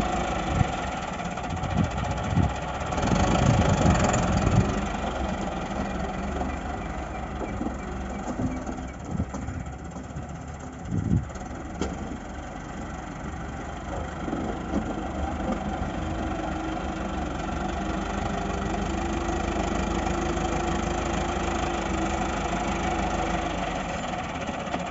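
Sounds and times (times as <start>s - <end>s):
heavy machinery engine running: 0.0s - 24.9s.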